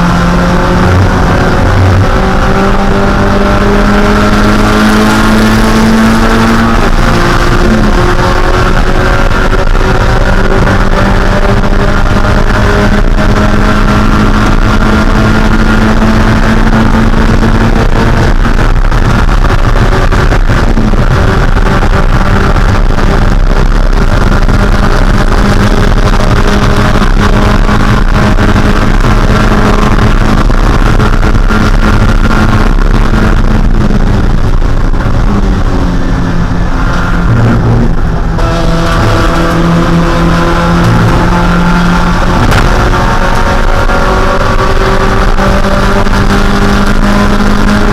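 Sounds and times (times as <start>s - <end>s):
race car engine at high revs: 0.0s - 47.9s
road noise: 0.0s - 47.9s
wind noise: 0.0s - 47.9s.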